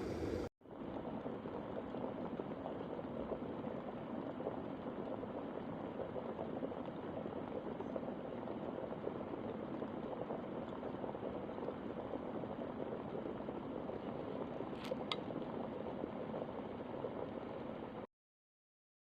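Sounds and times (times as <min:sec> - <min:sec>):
electric kettle boiling water: 0:00.0 - 0:18.1.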